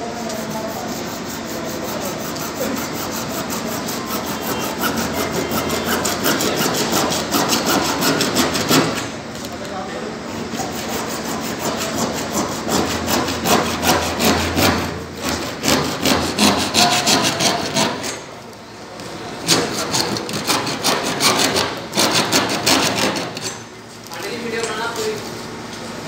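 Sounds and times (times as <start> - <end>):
hacksaw cutting plastic pipe: 0.0 - 9.1, 10.6 - 18.3, 19.4 - 23.7.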